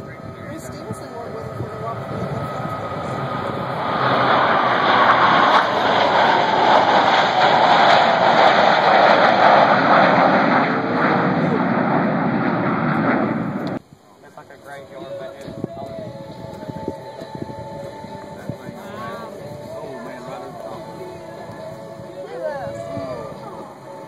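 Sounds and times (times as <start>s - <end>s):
jet whine falling in pitch: 0.0s - 24.0s
jets roaring past: 0.0s - 24.0s.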